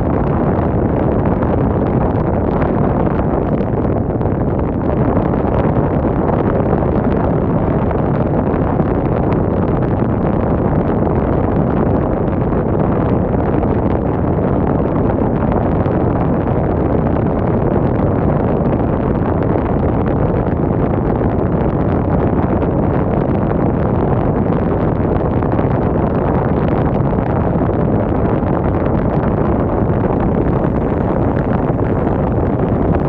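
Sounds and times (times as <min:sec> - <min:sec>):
wind blowing: 0:00.0 - 0:33.0.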